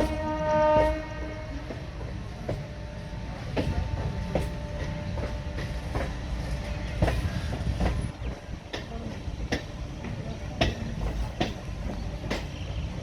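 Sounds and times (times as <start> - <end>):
train rumbling along track: 0.0 - 13.0
wheels clacking over rail joints: 1.6 - 13.0.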